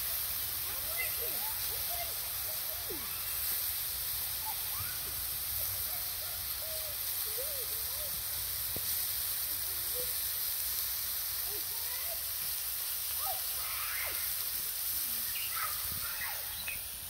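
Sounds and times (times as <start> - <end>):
faint voices: 0.0 - 17.0
vegetables sizzling on hot stone: 0.0 - 17.0.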